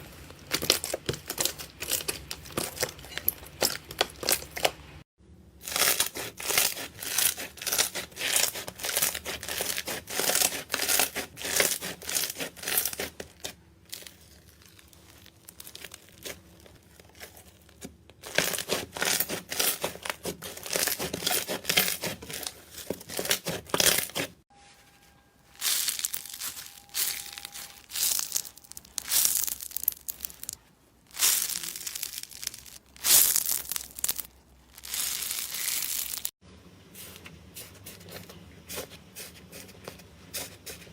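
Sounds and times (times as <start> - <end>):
slime crackling and popping: 0.0 - 4.8, 5.6 - 24.3, 25.6 - 36.3.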